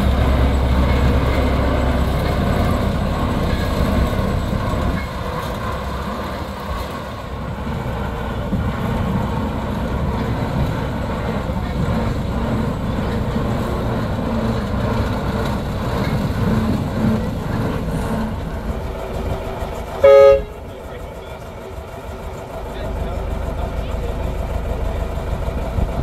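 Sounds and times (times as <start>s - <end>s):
diesel locomotive engine running: 0.0s - 26.0s.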